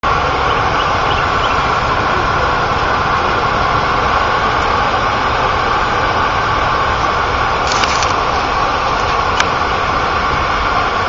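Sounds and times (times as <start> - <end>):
floodwater rushing over a dam: 0.1 - 11.0.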